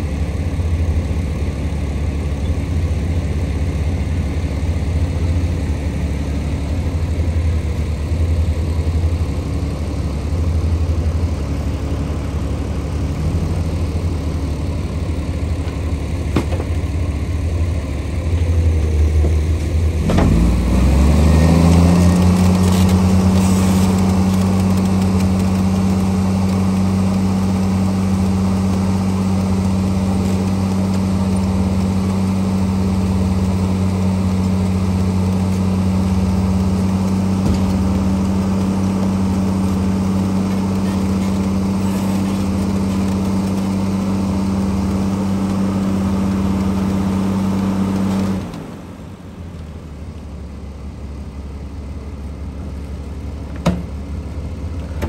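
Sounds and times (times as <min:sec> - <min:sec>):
engine throttled up under load: 0:00.0 - 0:55.0
heavy diesel engines running: 0:00.0 - 0:55.0.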